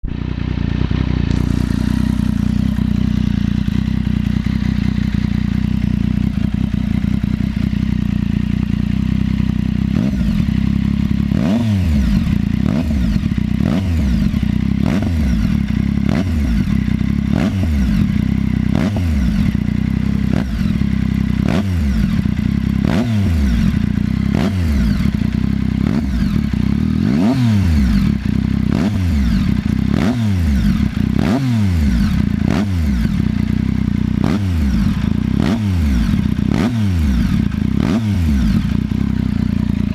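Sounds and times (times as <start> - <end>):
motorcycle engine idling: 0.0 - 39.9
weird engine noise: 0.0 - 39.9.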